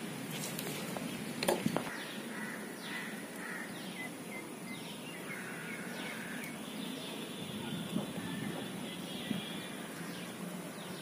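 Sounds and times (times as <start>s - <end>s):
outdoor background noise: 0.0s - 11.0s
bird chirping: 1.9s - 11.0s.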